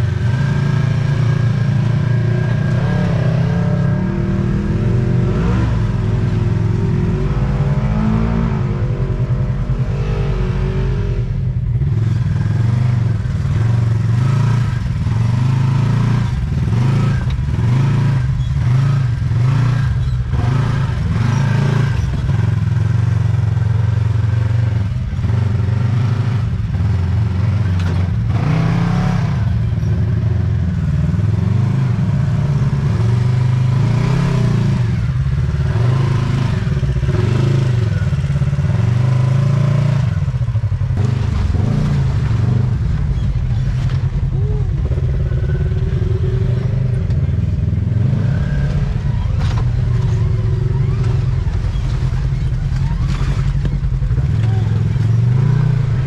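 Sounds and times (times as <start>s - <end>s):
utility vehicle engine revving: 0.0s - 56.0s.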